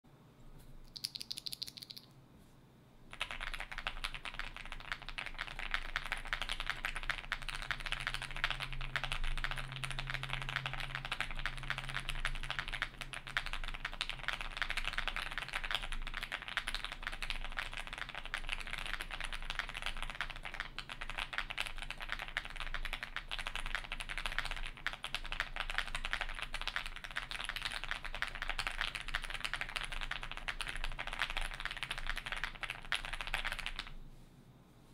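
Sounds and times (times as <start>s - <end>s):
fast typing on mechanical keyboard: 1.0s - 2.1s, 3.1s - 33.9s.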